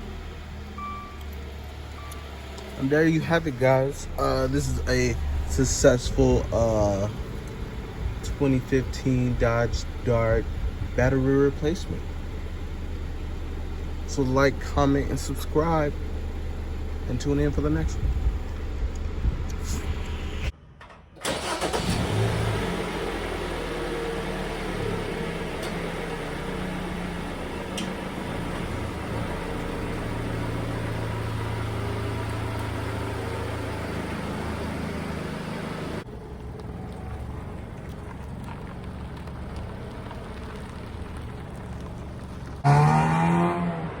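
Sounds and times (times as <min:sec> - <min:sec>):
car engine idling: 0:00.0 - 0:20.5, 0:21.2 - 0:42.9.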